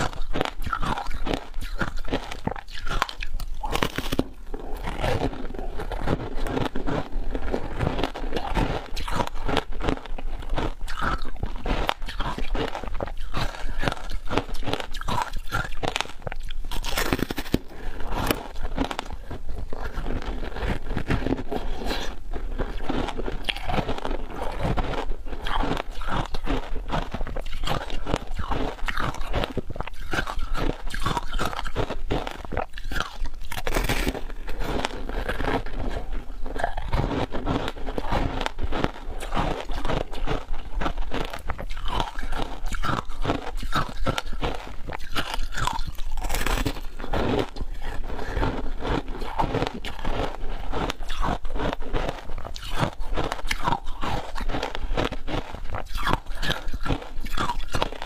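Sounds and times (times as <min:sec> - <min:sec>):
crunching ice being chewed: 0:00.0 - 0:58.0.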